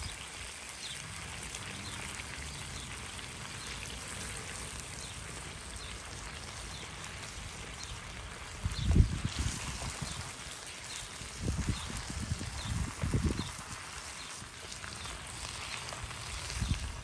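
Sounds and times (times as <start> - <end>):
chicken sizzling in a frying pan: 0.0 - 17.0.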